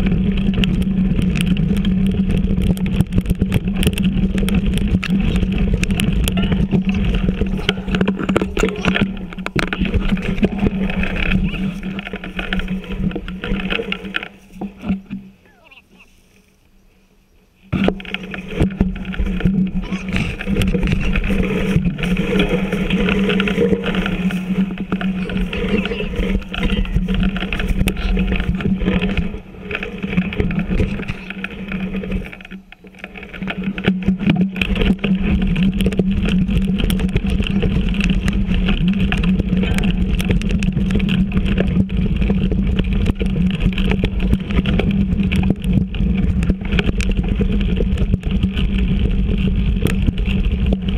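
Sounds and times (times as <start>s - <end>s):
bike knocks and rattles: 0.0s - 15.8s, 17.7s - 50.9s
tyre and wind rumble: 0.0s - 16.0s, 17.6s - 50.9s.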